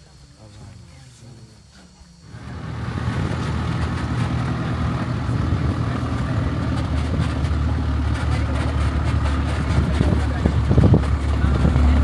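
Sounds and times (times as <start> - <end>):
vehicle engine droning: 2.3 - 12.0.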